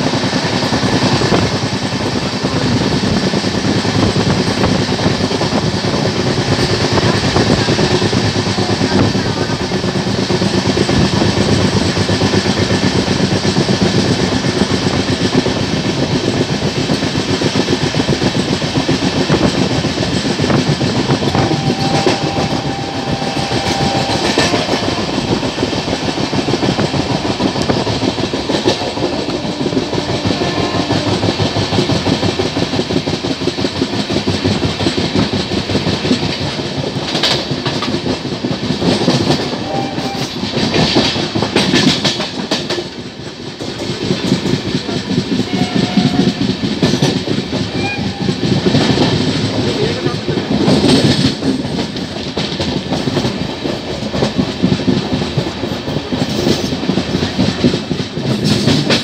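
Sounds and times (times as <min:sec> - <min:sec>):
train wheels clickety-clack: 0:00.0 - 0:59.0
wheels clanking over rail joints: 0:00.0 - 0:59.0.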